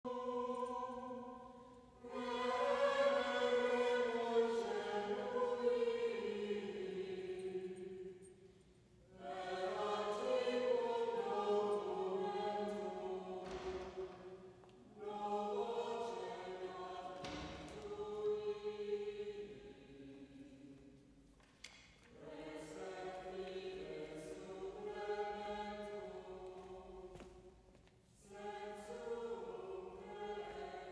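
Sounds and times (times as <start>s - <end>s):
choir singing sacred chant: 0.0s - 8.4s, 9.1s - 21.0s, 22.1s - 30.9s.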